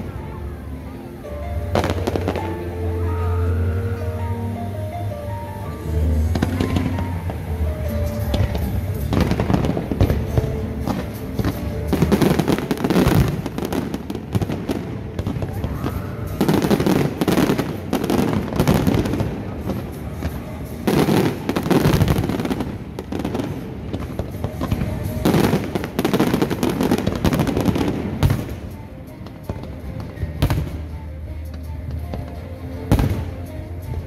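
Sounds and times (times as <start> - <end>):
fireworks bangs and crackling: 1.5 - 3.3, 5.6 - 34.0.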